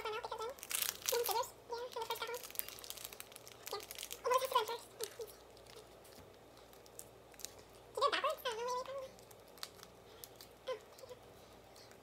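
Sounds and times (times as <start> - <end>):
plastic packets crinkling: 0.2 - 10.6.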